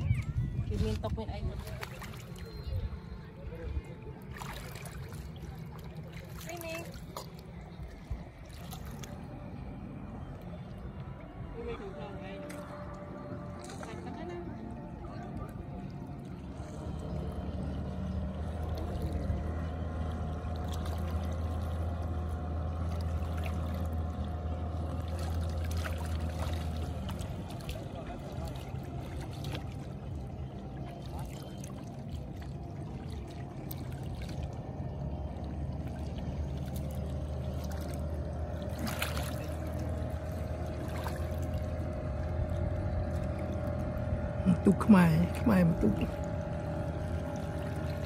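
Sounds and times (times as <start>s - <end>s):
outboard engine droning: 0.0s - 48.0s
water lapping at shore: 0.0s - 48.0s.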